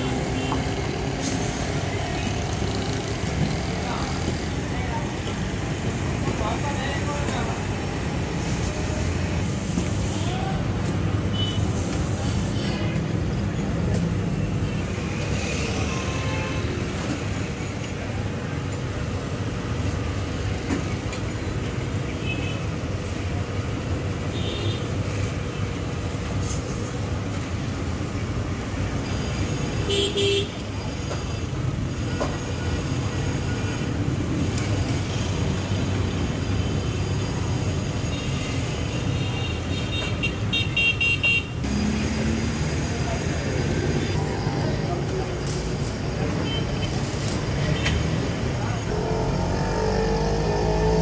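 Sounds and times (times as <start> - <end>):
road traffic noise: 0.0 - 51.0.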